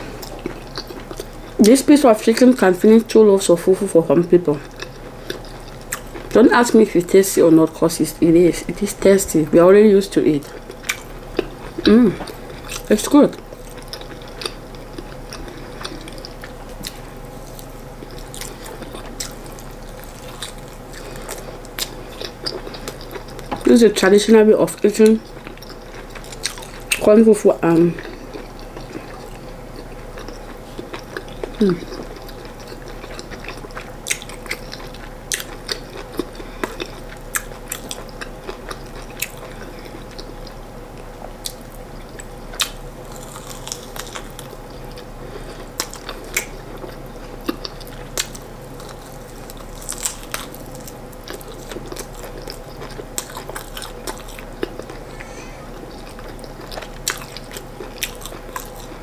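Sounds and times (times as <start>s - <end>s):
chewing and biting food: 0.0s - 1.7s, 4.4s - 6.8s, 10.3s - 59.0s.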